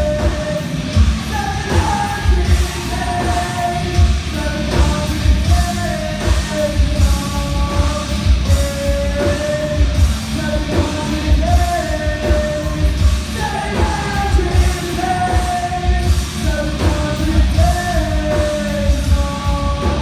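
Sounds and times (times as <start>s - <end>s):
live rock band playing: 0.0s - 20.0s
singer holding long notes: 0.0s - 20.0s.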